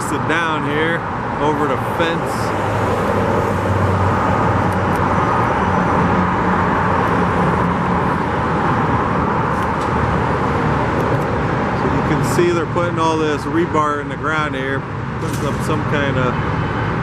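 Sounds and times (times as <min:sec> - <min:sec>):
low engine hum: 0:00.0 - 0:17.0
road traffic roar: 0:00.0 - 0:17.0.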